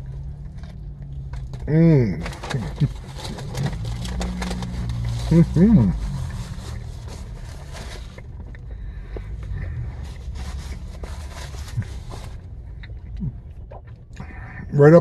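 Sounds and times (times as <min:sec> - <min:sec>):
man chewing crunchy food: 0:00.0 - 0:14.6
low car cabin hum: 0:00.0 - 0:15.0.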